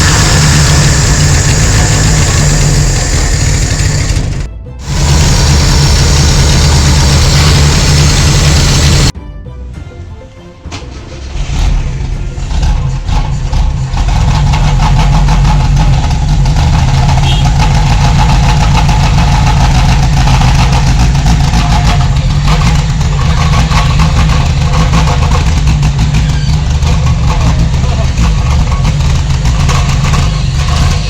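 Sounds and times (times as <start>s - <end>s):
car engine running: 0.0s - 9.1s, 11.8s - 31.0s.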